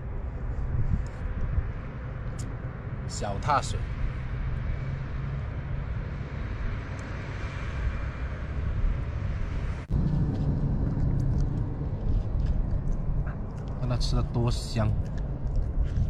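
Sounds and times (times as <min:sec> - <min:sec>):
wind noise on microphone: 0:00.0 - 0:03.1, 0:03.8 - 0:16.0.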